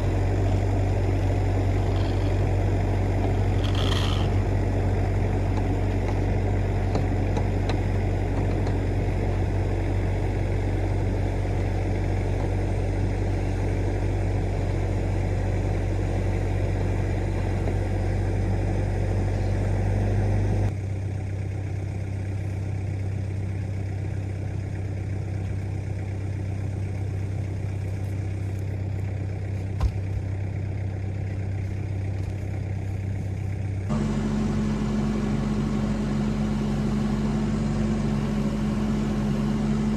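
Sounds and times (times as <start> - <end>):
diesel excavator engine humming: 0.0 - 39.9.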